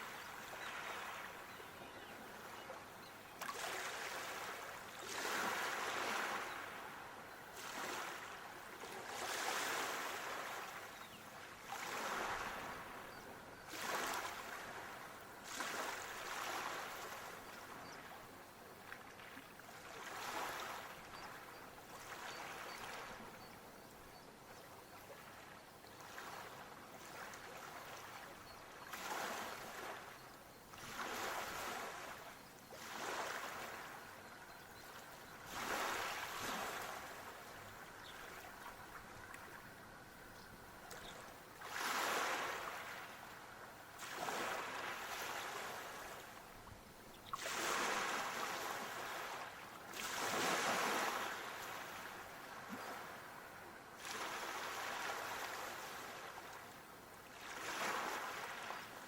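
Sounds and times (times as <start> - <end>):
water lapping in swells: 0.0 - 59.0.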